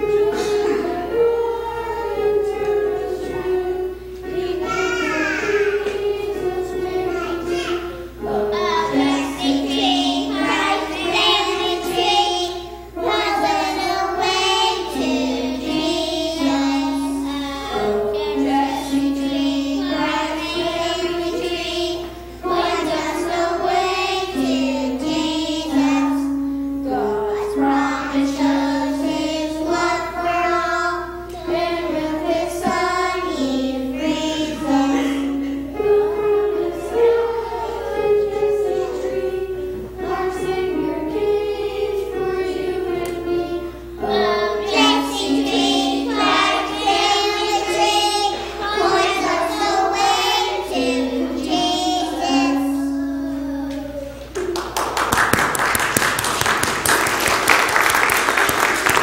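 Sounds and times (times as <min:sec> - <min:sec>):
children singing together: 0:00.0 - 0:56.1.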